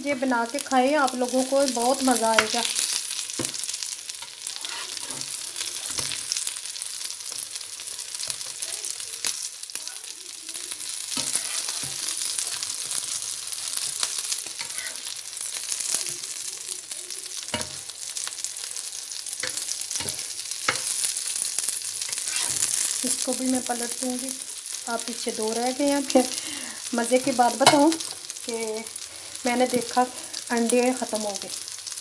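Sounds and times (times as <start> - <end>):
oil sizzling in a pan: 0.0 - 32.0.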